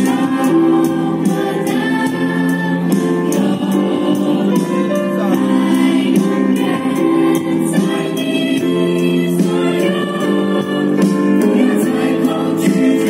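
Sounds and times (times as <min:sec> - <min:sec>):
choir singing in harmony: 0:00.0 - 0:13.0
instrumental accompaniment: 0:00.0 - 0:13.0.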